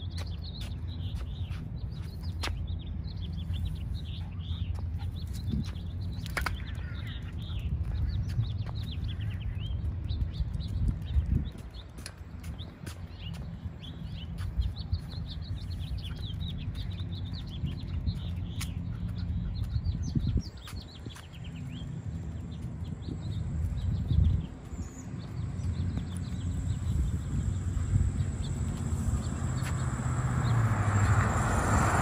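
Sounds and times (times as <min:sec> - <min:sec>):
small birds chirping: 0:00.0 - 0:32.0
steady low rumble: 0:00.0 - 0:32.0.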